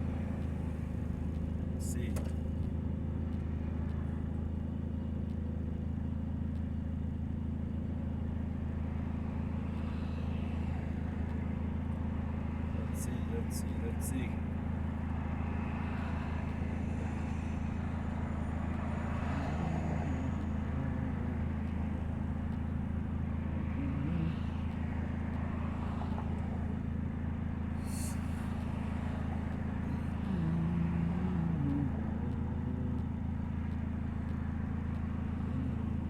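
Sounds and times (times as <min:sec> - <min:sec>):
car engine exhaust drone: 0:00.0 - 0:36.0.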